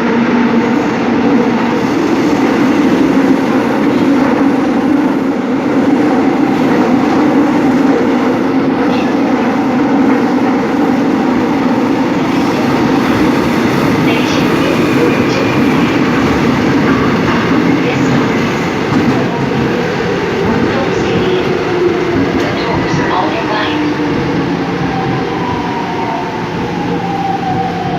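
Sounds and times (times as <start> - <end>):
train rumbling through tunnel: 0.0 - 27.9.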